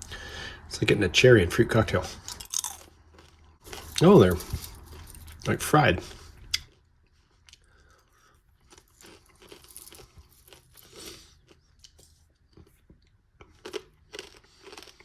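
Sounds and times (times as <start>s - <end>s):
crunching crisp chips: 2.2s - 12.8s, 13.4s - 15.0s.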